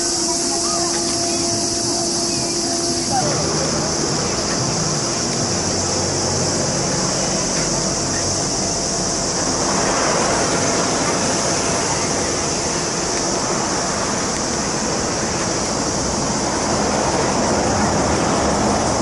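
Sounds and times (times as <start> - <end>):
high-pitched hiss: 0.0 - 19.0
road traffic: 0.0 - 19.0.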